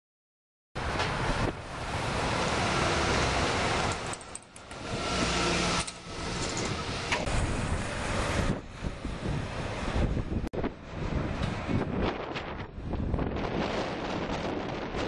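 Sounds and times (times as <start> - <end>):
bus passing close by: 0.8 - 15.0
road traffic noise: 0.8 - 15.0.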